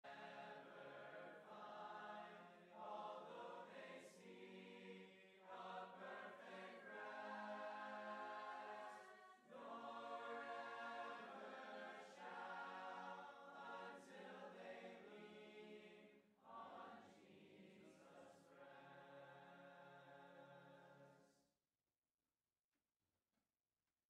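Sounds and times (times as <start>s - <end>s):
group singing a hymn a cappella: 0.1s - 21.3s.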